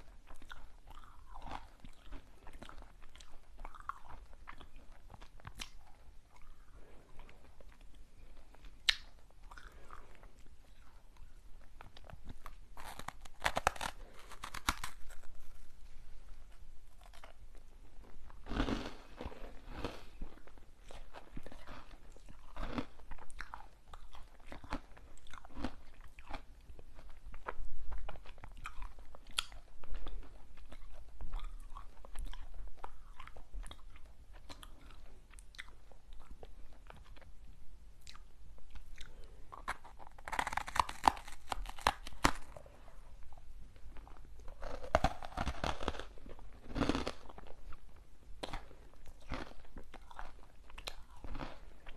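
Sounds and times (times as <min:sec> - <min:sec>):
chewing crunchy sweets: 0:00.0 - 0:51.9.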